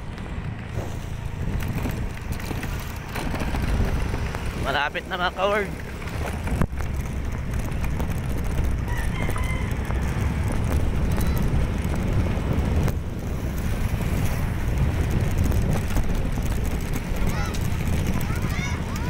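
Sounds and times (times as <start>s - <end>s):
motorcycle engine rumble: 0.0s - 19.0s
wind buffeting microphone: 0.0s - 19.0s.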